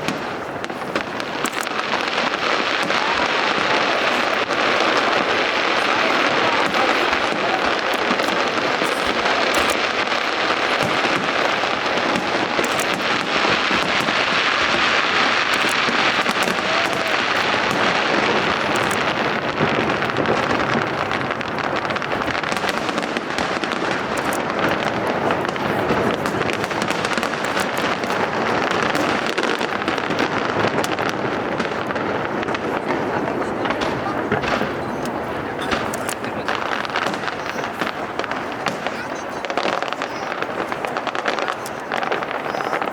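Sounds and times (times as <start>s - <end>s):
fireworks crackling and bursting: 0.0s - 42.9s.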